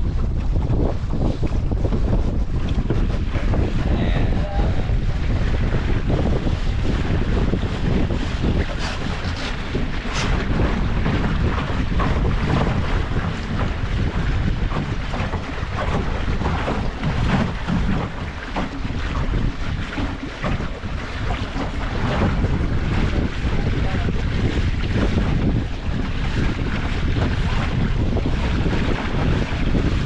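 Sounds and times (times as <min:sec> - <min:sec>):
water slapping against hull: 0:00.0 - 0:30.0
wind buffeting microphone: 0:00.0 - 0:30.0.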